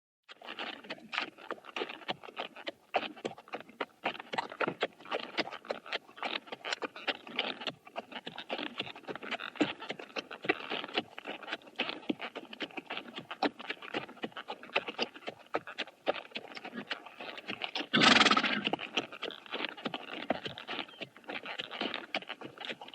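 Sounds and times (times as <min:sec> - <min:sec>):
horse hooves clip-clopping: 0:00.3 - 0:22.9.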